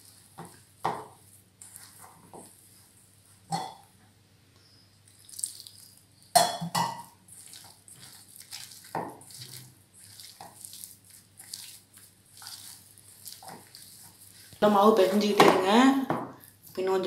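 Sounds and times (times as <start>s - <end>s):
wet dough squishing: 0.0s - 3.5s, 5.0s - 6.4s, 7.0s - 17.0s.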